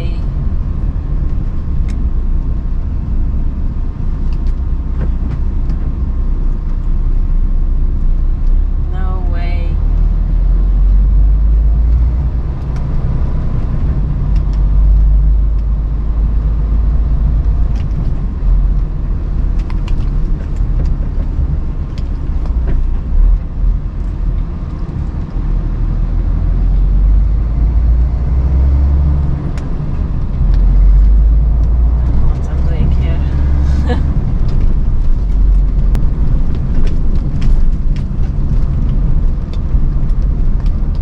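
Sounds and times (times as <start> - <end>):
lorry engine and road rumble: 0.0 - 41.0.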